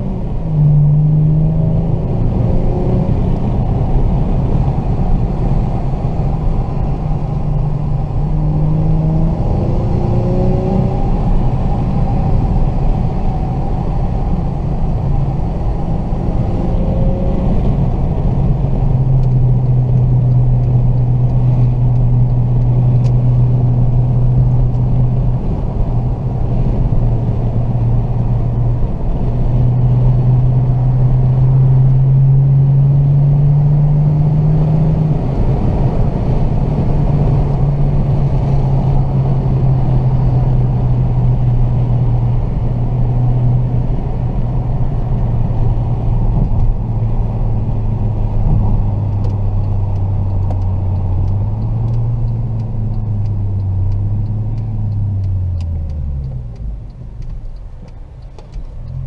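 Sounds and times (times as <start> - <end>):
car engine droning in cabin: 0.0 - 59.0
road noise: 0.0 - 59.0.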